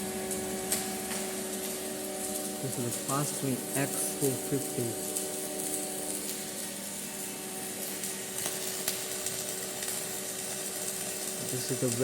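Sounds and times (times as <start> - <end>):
welding arc crackling and hissing: 0.0 - 12.0.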